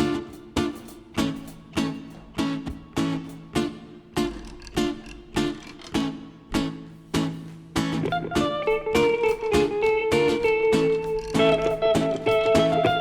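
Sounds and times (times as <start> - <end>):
lead guitar melody: 0.0 - 13.0
rhythm guitar chords: 0.0 - 13.0.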